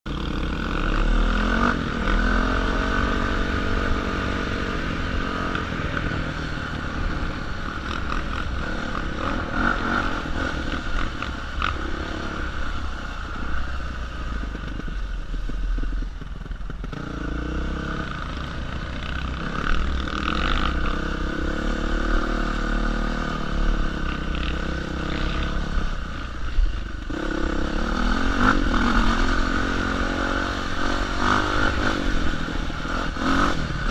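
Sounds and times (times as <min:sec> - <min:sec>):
dirt bike engine revving: 0:00.1 - 0:13.6, 0:16.8 - 0:33.9.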